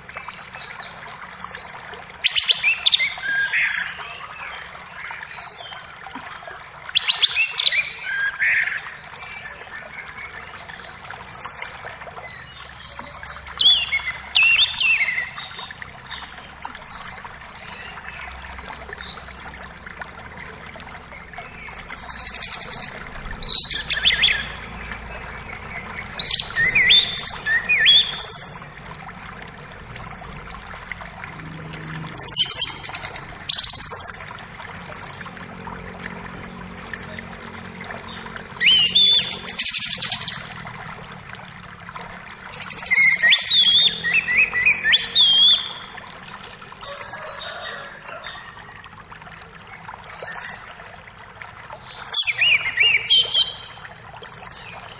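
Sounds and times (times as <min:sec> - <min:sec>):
birds singing and chirping: 0:00.0 - 0:10.6, 0:11.2 - 0:30.6, 0:31.4 - 0:40.6, 0:42.5 - 0:46.2, 0:51.5 - 0:54.9
creek rushing: 0:00.8 - 0:54.9.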